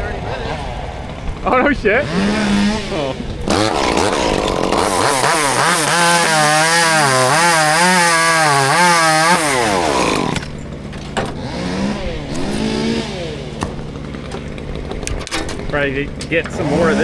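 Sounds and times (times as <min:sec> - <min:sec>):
chainsaw cutting wood: 0:00.9 - 0:17.0.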